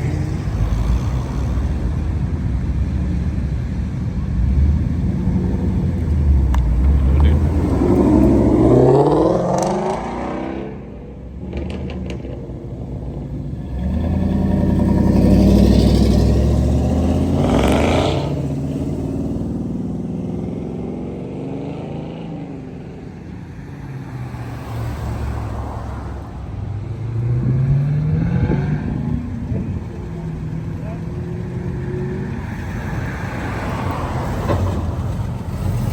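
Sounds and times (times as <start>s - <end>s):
car engines revving: 0.0s - 35.9s.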